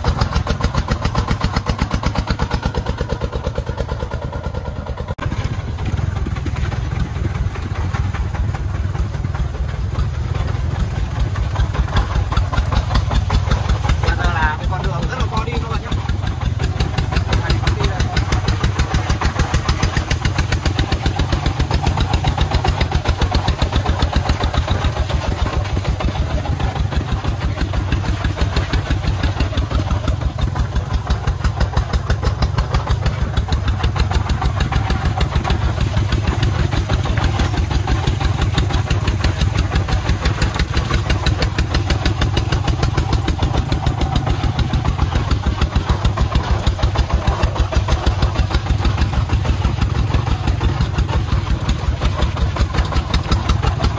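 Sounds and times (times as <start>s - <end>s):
single-cylinder diesel engine running: 0.0s - 53.9s.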